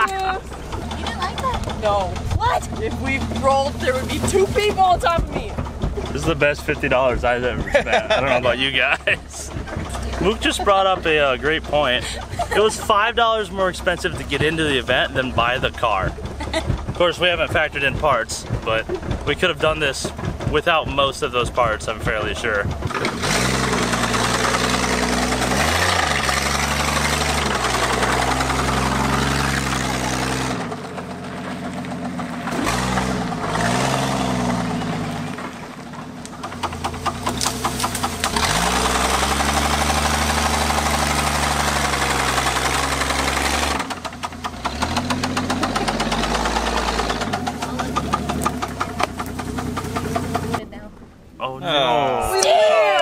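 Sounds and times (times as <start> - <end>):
engine knock: 0.0 - 50.6
car engine revving: 0.0 - 51.3.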